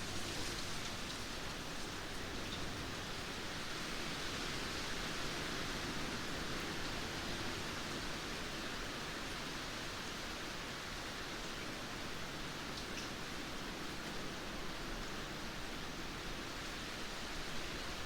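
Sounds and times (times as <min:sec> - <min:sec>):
light rain falling: 0:00.0 - 0:18.0.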